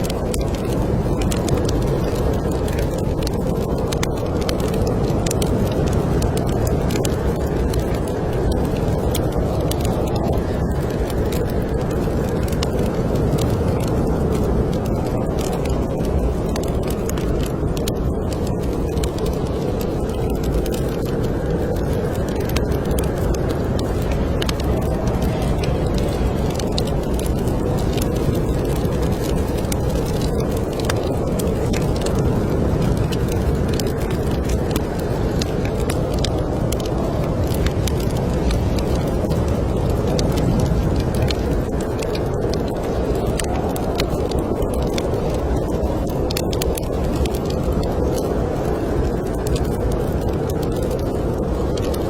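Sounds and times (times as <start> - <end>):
low wind of snowstorm: 0.0 - 52.0
wood fire crackling: 0.0 - 52.0.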